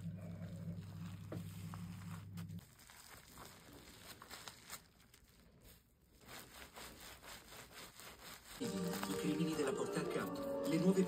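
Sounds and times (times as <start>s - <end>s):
bubble wrap and cloth rustling: 0.0s - 11.0s.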